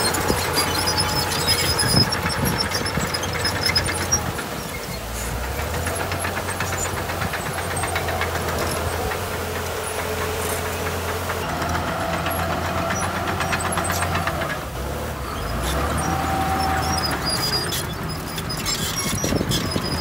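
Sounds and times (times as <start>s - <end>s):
diesel engine of heavy machinery: 0.0s - 20.0s
ticking clatter: 0.0s - 20.0s.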